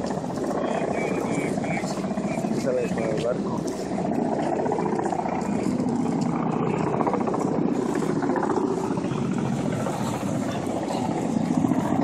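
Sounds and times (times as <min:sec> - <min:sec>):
boat engine rumbling: 0:00.0 - 0:12.0
water noise: 0:00.0 - 0:12.0
wind: 0:00.0 - 0:12.0.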